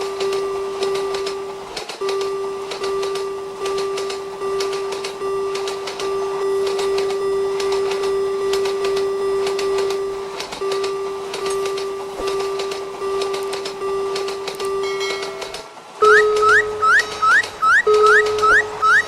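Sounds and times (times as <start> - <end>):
level-crossing warning bell: 0.0 - 19.0
sharp ticks: 0.0 - 19.0.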